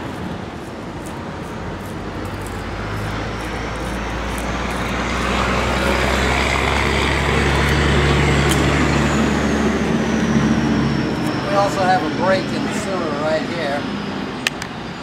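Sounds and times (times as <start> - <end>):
engine running: 0.0 - 15.0
faint high whine: 1.6 - 15.0.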